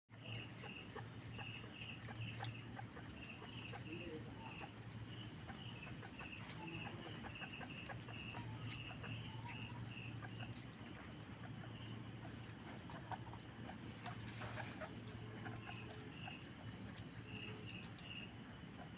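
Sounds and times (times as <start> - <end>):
animals chewing vegetables: 0.1 - 18.9
steady low hum: 0.1 - 18.9.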